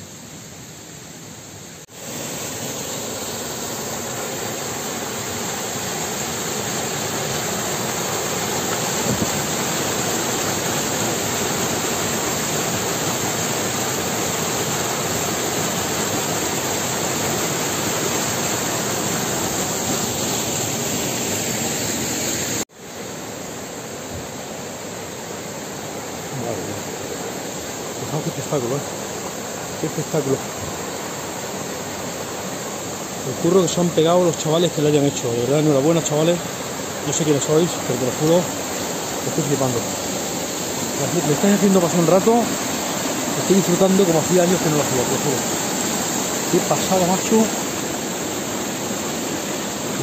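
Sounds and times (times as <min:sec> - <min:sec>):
rushing water of mountain stream: 0:00.0 - 0:50.0.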